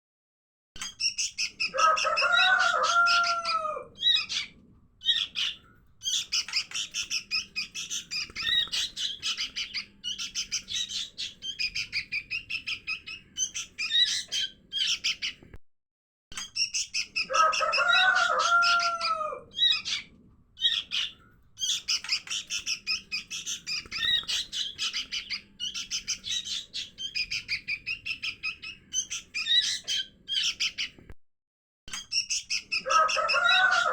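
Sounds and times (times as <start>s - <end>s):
fledglings begging chirps: 0.8s - 15.4s, 16.5s - 31.0s.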